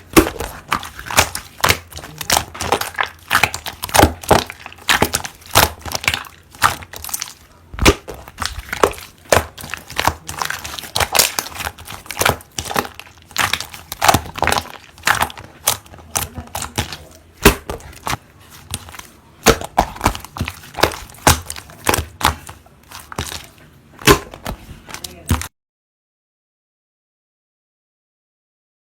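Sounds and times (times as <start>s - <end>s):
slime squished by hand: 0.0s - 25.5s.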